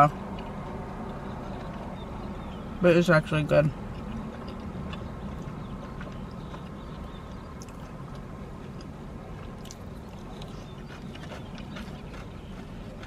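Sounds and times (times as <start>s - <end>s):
low hum inside car: 0.0s - 13.0s
person chewing coleslaw: 0.1s - 2.6s, 3.8s - 13.0s.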